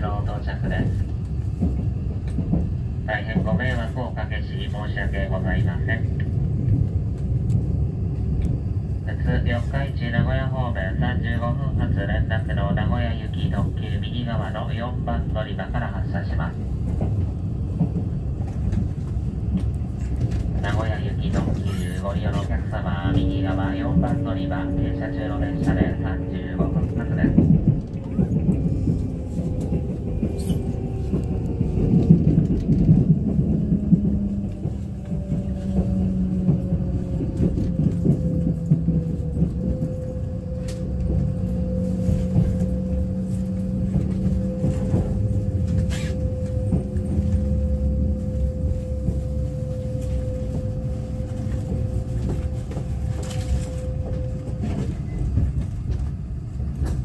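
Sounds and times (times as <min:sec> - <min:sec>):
train running gear rumbling: 0:00.0 - 0:57.0.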